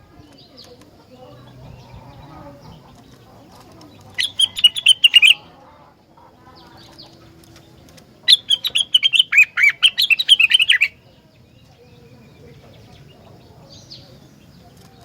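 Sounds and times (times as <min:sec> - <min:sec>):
songbird rapid chirping: 0:00.0 - 0:15.0.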